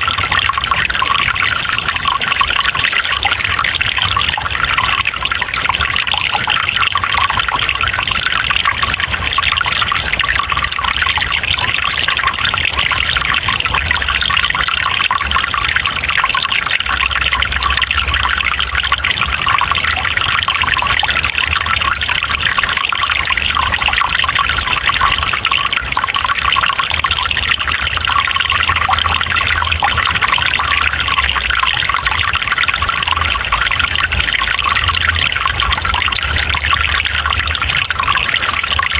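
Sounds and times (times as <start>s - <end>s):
water trickling and flowing: 0.0s - 38.9s.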